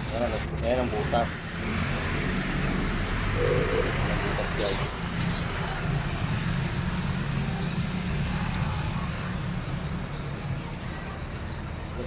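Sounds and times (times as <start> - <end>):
car engine idling: 0.0 - 11.0
road noise: 0.0 - 12.0.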